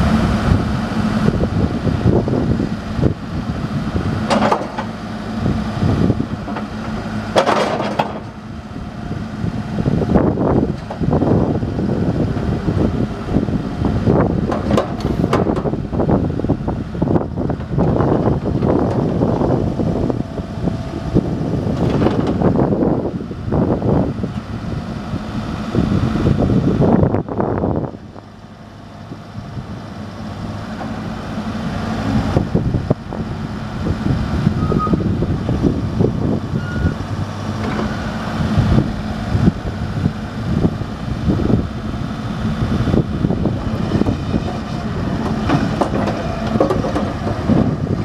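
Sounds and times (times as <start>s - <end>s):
backhoe diesel engine running: 0.0s - 48.0s
gusty wind noise: 0.0s - 48.0s.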